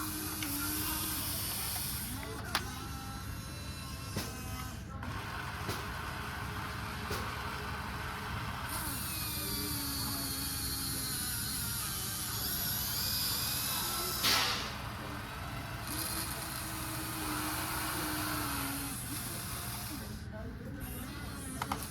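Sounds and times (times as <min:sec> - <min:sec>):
electric motors whirring: 0:00.0 - 0:21.9.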